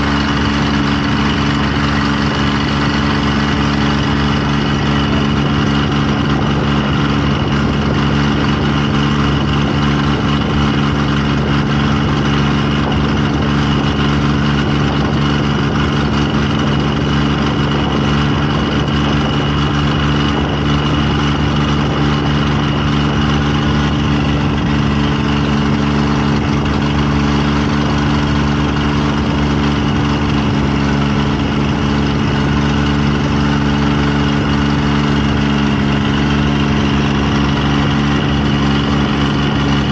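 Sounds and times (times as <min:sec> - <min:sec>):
engine humming with whine: 0:00.0 - 0:39.9.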